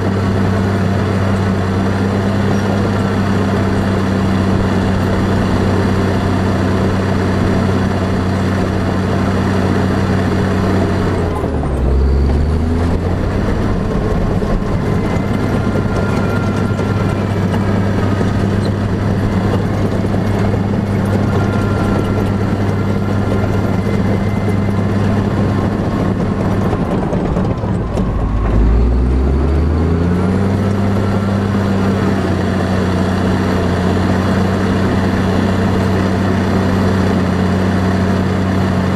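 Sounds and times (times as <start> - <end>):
heavy engine running: 0.0 - 38.9.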